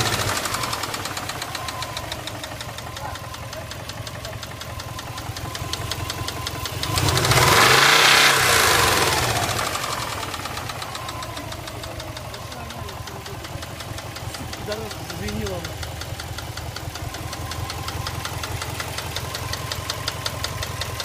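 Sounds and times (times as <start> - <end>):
engine running with rhythmic knock: 0.0 - 21.0.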